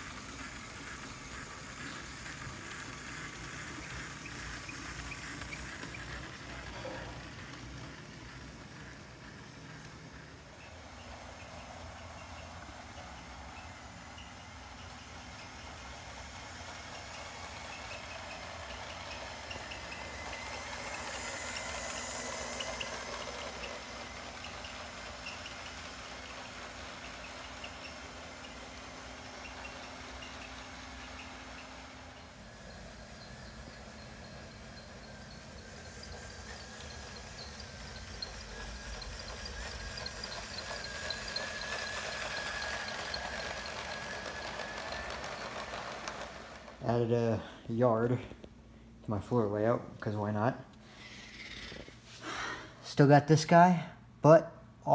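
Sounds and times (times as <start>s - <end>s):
wheels clicking over track: 0.0s - 48.4s
toy train motor humming: 0.0s - 48.5s, 50.8s - 52.7s.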